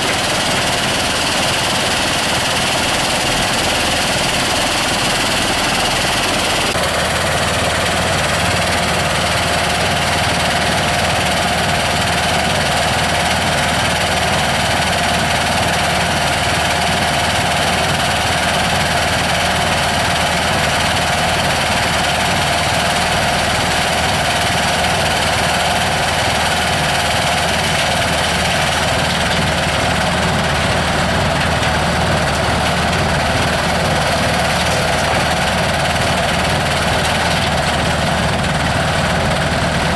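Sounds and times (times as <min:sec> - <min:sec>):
soil screening machine droning: 0:00.0 - 0:39.9.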